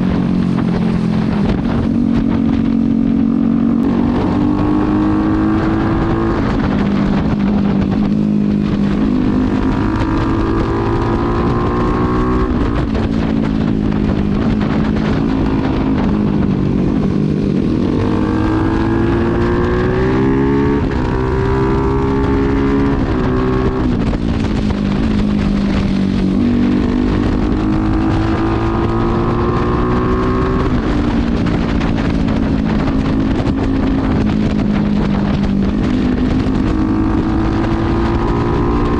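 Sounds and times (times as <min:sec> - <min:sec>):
motorcycle engine accelerating: 0:00.0 - 0:38.9
wind on microphone: 0:00.0 - 0:38.9.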